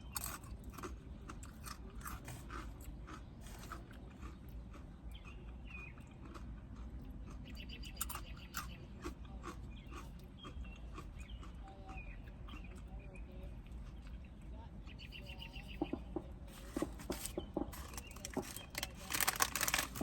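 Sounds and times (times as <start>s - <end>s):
person chewing crunchy food: 0.0s - 14.5s, 15.8s - 20.0s.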